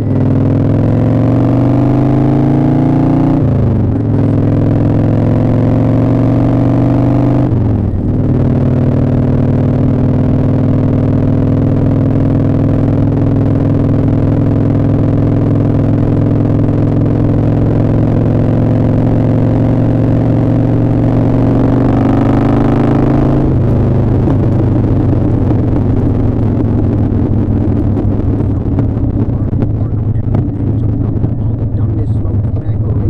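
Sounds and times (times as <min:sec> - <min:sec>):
muffled motorcycle engine shifting: 0:00.0 - 0:33.0.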